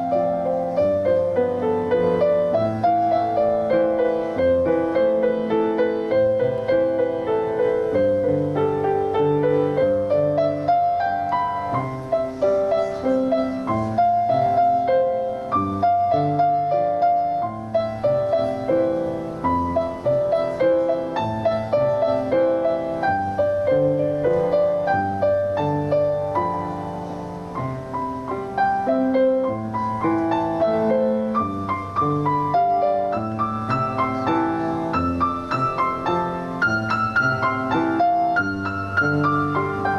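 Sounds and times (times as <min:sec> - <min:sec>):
solo piano piece: 0:00.0 - 0:39.9.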